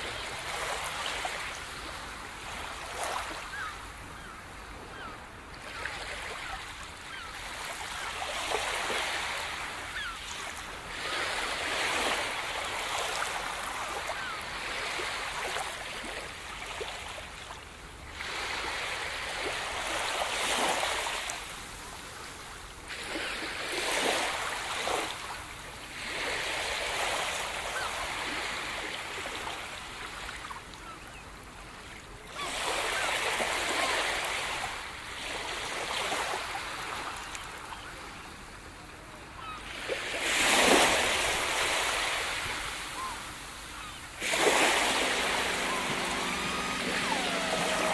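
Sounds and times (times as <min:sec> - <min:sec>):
waves washing onto shore: 0:00.0 - 0:47.9.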